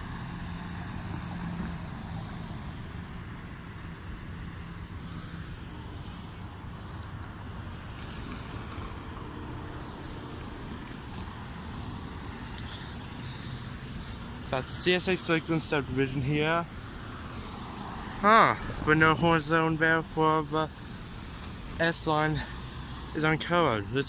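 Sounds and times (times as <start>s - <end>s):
low rumble of vehicle noise: 0.0s - 24.0s.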